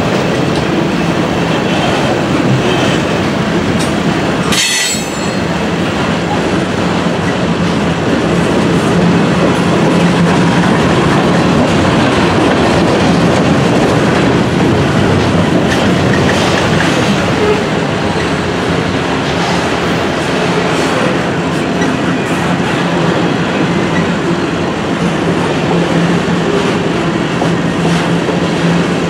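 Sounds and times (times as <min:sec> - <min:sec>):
train cars clanking: 0:00.0 - 0:29.0
train wheels clattering on rails: 0:00.0 - 0:29.0.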